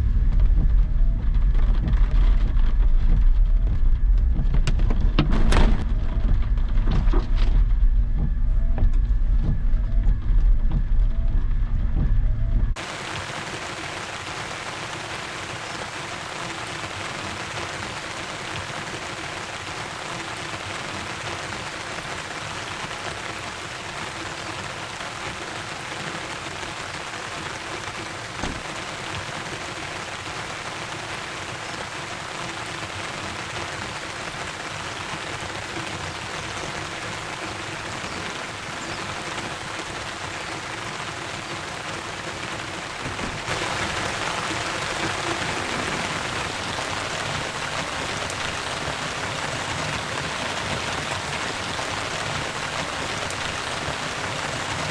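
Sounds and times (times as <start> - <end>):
heavy rain falling: 0.0 - 9.0, 12.7 - 54.9.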